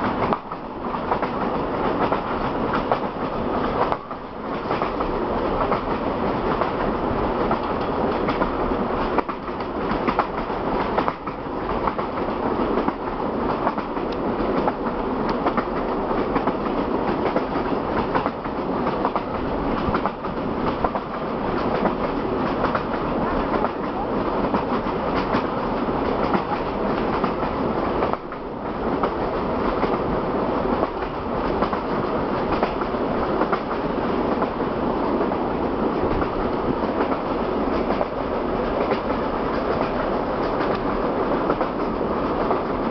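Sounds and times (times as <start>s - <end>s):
train rumbling on rails: 0.0s - 42.9s
train wheel clatter: 0.0s - 42.9s.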